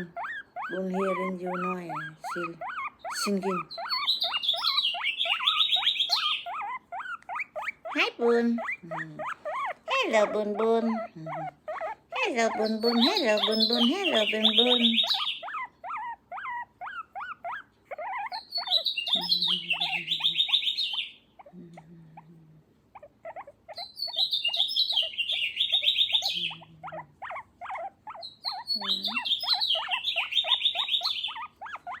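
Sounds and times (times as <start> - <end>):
pet squeaky chirps: 0.0 - 21.8, 22.9 - 32.0.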